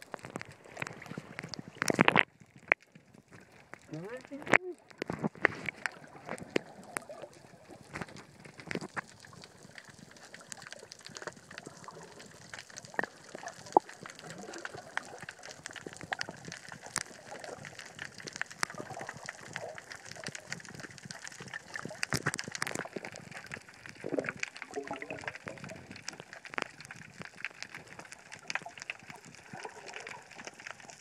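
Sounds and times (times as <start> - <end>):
muffled underwater water wash: 0.0 - 31.0
underwater clicks and crackles: 0.0 - 31.0.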